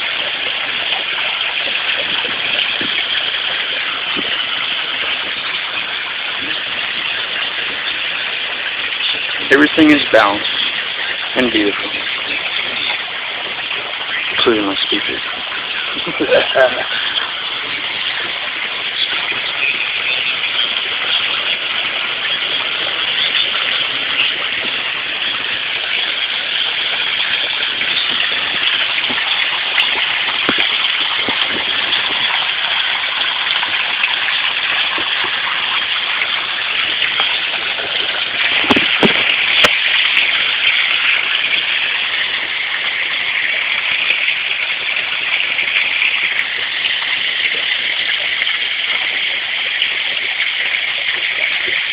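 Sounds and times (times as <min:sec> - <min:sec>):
water splashing in water feature: 0:00.0 - 0:51.9.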